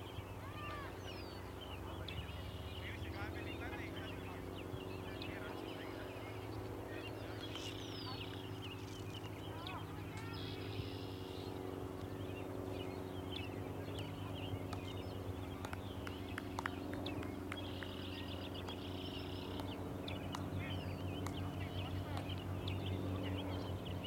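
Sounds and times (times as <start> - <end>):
low hum: 0.0 - 24.0
songbirds chirping: 0.0 - 24.0
trilled bird song: 0.0 - 24.0.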